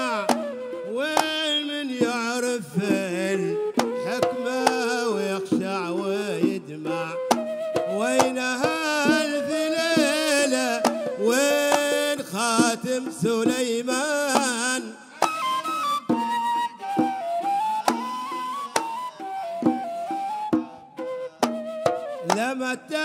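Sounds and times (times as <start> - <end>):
hand drum strokes: 0.0 - 22.6.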